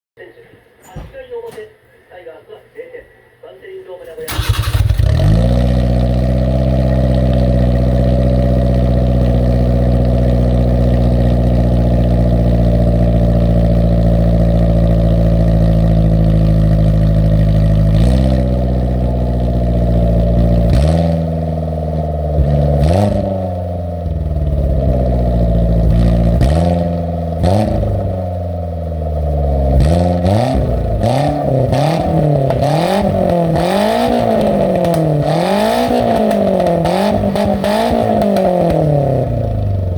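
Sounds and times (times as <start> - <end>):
loud engine exhaust revving: 4.3 - 39.9.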